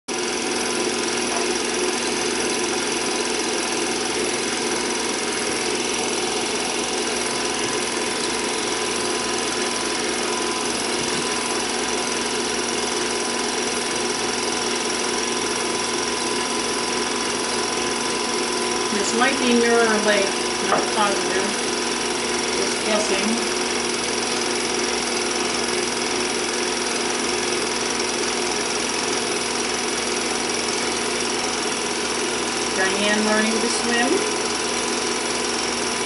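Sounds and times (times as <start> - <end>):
film projector clattering: 0.1 - 36.0.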